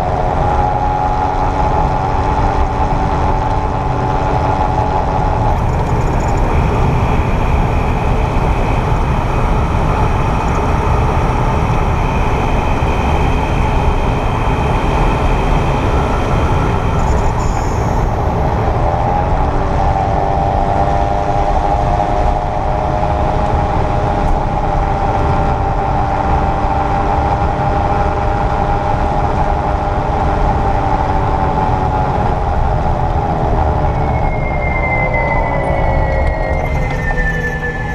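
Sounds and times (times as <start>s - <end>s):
road noise: 0.0s - 37.9s.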